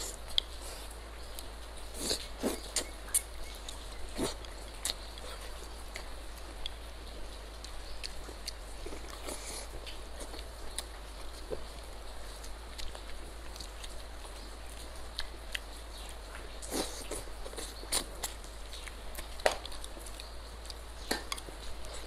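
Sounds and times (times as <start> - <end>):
low steady hum: 0.0 - 22.0
wet chewing and lip-smacks: 0.0 - 22.0.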